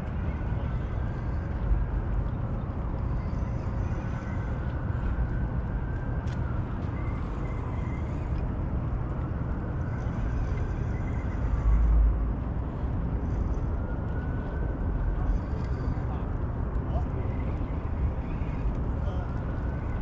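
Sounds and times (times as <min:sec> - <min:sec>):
outdoor rumble: 0:00.0 - 0:20.0.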